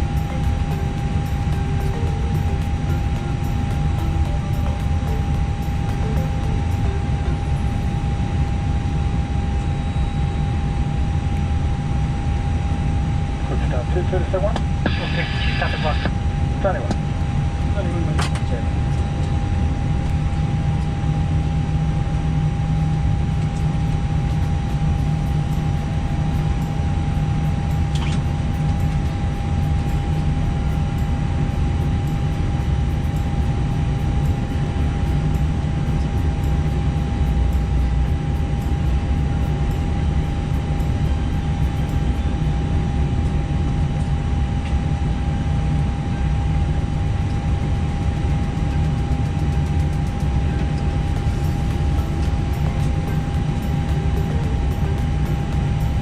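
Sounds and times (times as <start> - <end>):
aircraft engine rumble: 0.0 - 56.0
engine whine: 0.0 - 56.0.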